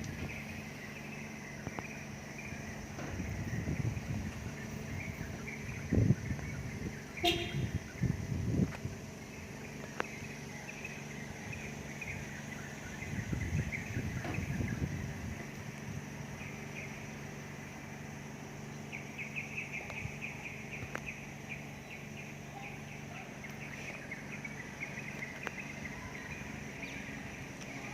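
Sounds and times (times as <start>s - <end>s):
birds chirping: 0.0s - 27.9s
steady low hum: 0.0s - 27.9s.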